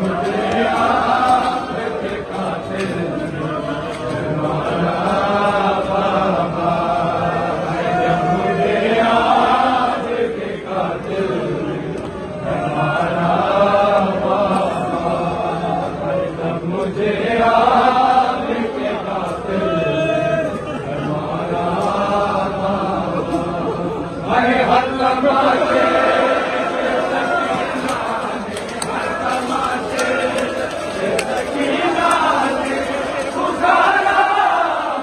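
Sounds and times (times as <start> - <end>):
crowd of men chanting a lament: 0.0 - 35.0.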